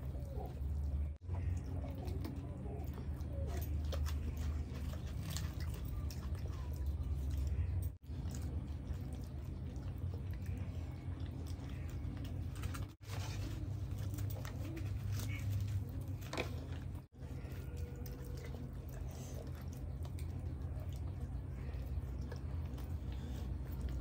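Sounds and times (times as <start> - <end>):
chewing and biting food: 0.0 - 24.0.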